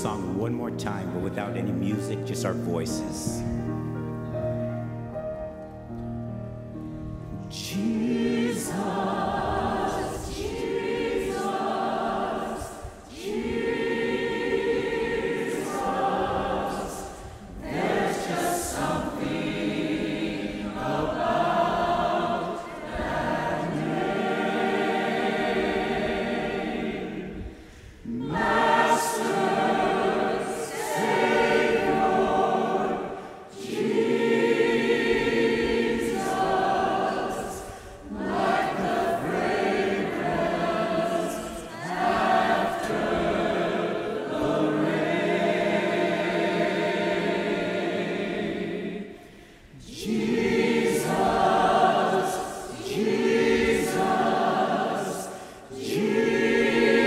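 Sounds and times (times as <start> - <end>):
congregation singing a cappella: 0.0 - 3.7, 7.2 - 57.0.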